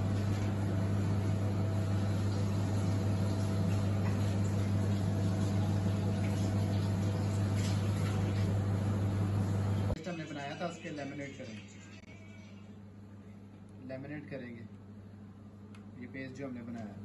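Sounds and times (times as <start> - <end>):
appliance electrical hum with hiss: 0.0 - 17.0.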